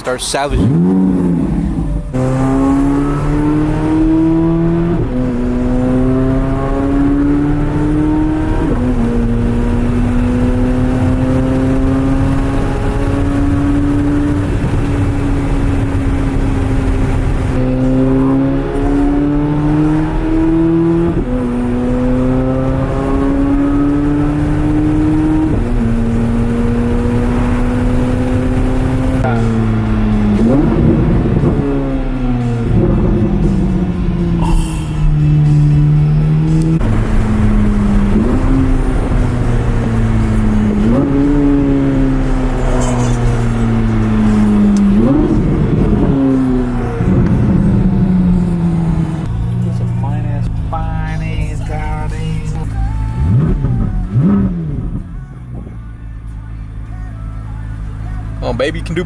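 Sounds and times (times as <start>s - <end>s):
car engine accelerating through gears: 0.0s - 56.0s.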